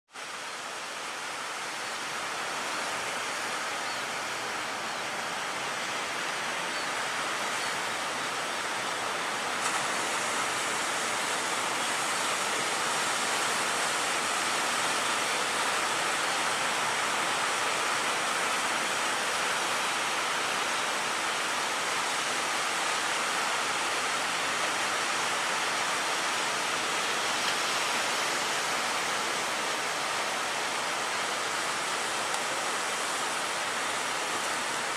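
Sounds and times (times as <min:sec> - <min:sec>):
wind: 0:00.1 - 0:34.9.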